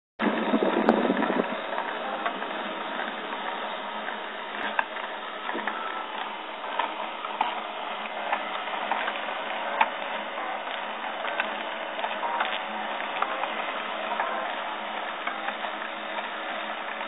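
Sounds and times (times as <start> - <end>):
cnc mill milling: 0.2 - 17.0.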